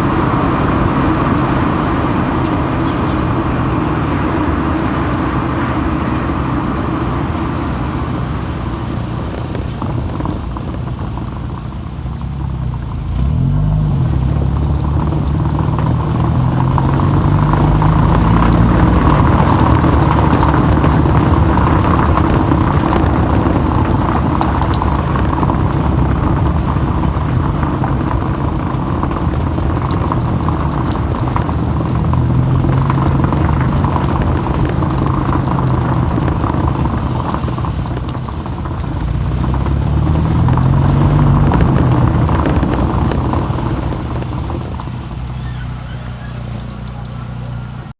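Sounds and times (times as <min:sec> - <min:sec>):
car engine: 0:00.0 - 0:47.9
road noise: 0:00.0 - 0:47.9.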